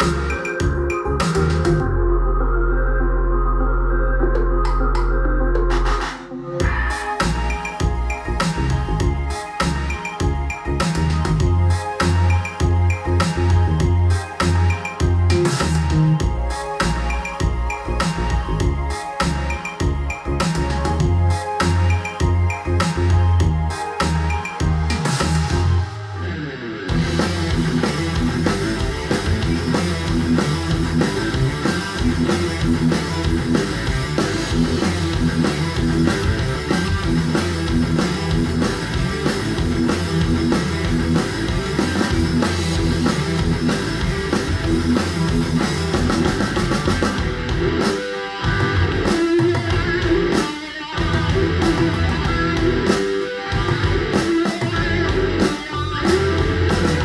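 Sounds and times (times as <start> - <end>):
metal music through speakers: 0.0 - 57.0.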